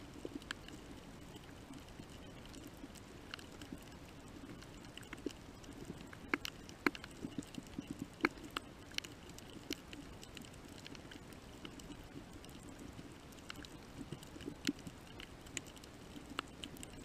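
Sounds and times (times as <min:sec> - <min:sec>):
low underwater hiss: 0:00.0 - 0:17.0
underwater clicks and crackles: 0:00.0 - 0:17.0.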